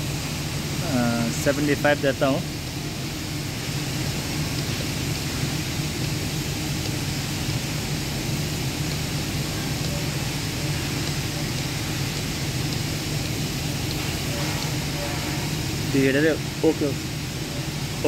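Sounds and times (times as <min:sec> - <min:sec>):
industrial machinery drone: 0:00.0 - 0:18.0.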